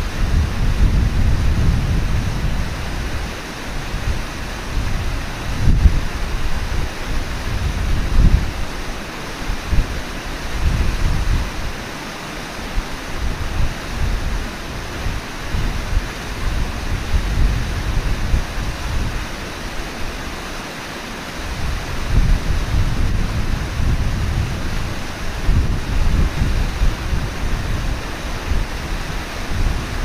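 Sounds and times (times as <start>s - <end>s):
river water rushing: 0.0s - 30.0s
wind rumbling on microphone: 0.0s - 30.0s.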